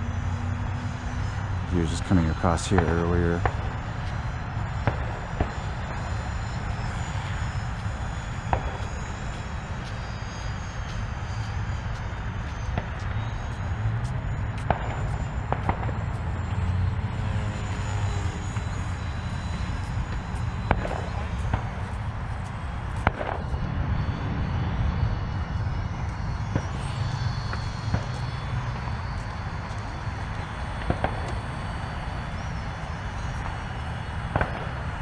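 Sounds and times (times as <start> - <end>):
distant model jet whine: 0.0 - 35.0.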